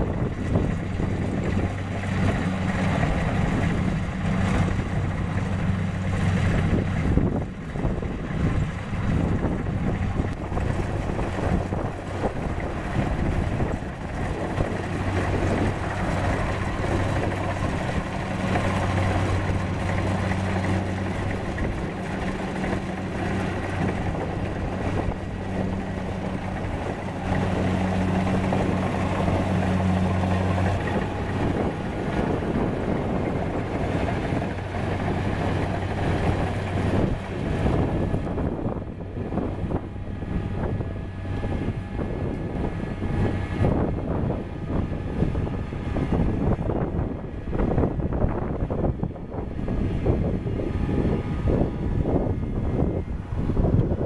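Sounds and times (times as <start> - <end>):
combine harvester machinery din: 0.0 - 54.0
steady-pitched engine hum: 0.0 - 54.0.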